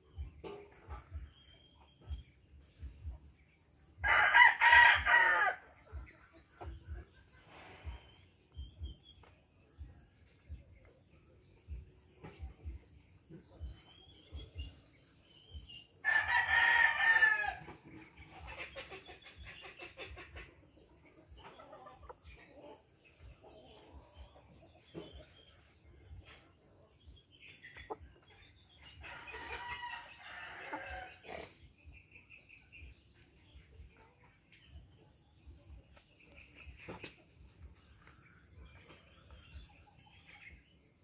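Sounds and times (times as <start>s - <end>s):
chickens clucking: 0.0s - 16.3s, 17.0s - 41.0s
small birds chirping faintly: 0.0s - 41.0s.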